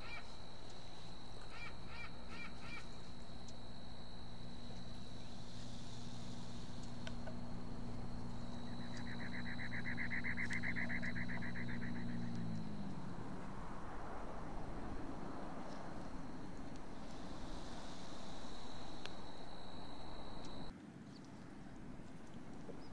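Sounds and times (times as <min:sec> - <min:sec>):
distant engine humming: 0:00.0 - 0:20.7.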